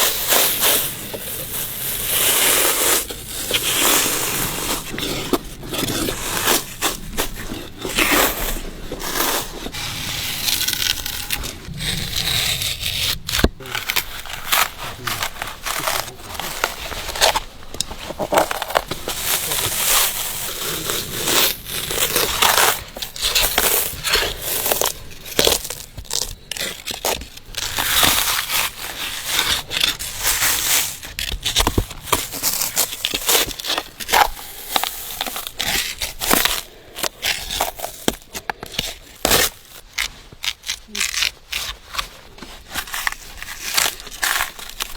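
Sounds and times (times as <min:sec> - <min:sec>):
bark tearing off tree trunk: 0:02.8 - 0:44.9.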